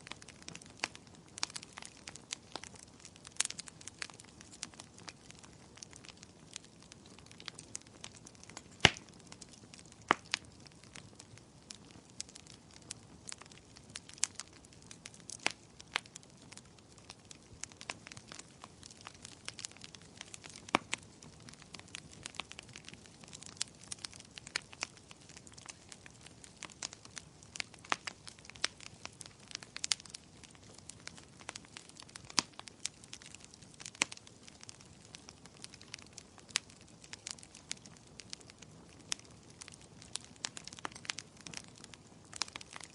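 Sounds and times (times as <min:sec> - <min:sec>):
low steady hiss: 0:00.0 - 0:42.9
wood fire crackling and popping: 0:00.0 - 0:42.9.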